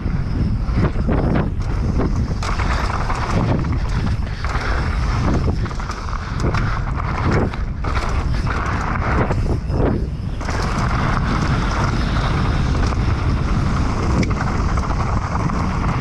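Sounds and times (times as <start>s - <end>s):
bike tyres rolling on dirt: 0.0s - 16.0s
wind on microphone: 0.0s - 16.0s
bike clattering over bumps: 0.7s - 16.0s.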